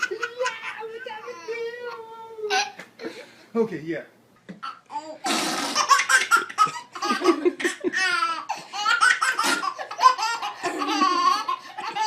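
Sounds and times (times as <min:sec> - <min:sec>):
baby laughing: 0:00.0 - 0:02.9, 0:04.6 - 0:12.0.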